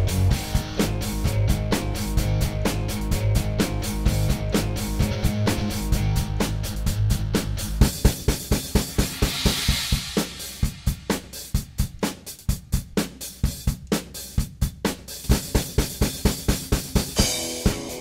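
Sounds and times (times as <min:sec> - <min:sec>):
rock drum kit playing: 0:00.0 - 0:18.0.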